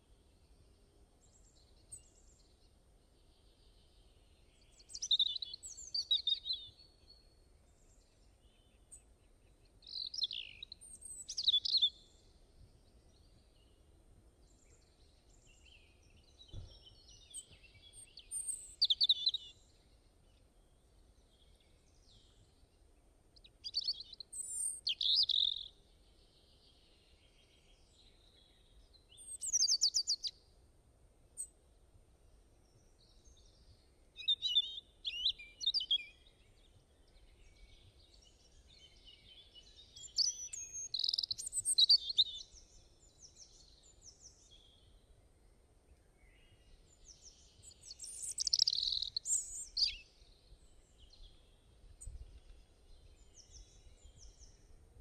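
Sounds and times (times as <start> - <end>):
faint low background hiss: 0.0 - 55.0
songbirds chirping: 0.0 - 55.0.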